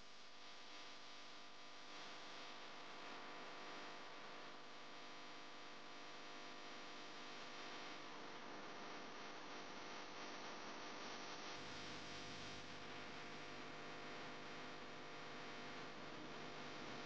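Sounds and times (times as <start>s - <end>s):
faint hum with hiss: 0.0s - 17.0s.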